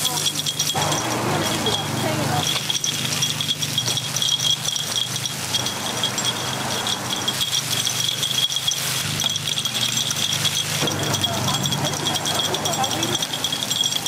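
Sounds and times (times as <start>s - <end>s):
batter sizzling: 0.0s - 14.0s
metal picks clicking on griddle: 0.0s - 14.0s.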